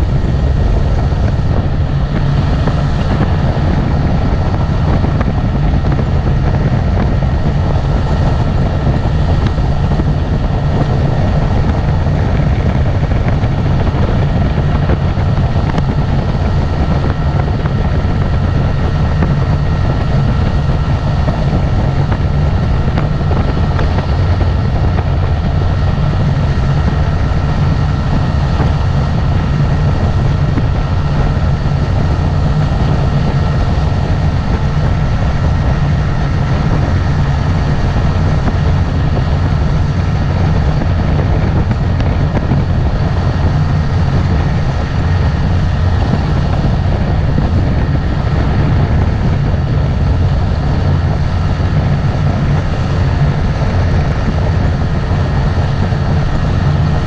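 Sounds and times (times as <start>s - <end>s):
motorboat engine droning: 0.0s - 57.0s
thin steady whine: 0.0s - 57.0s.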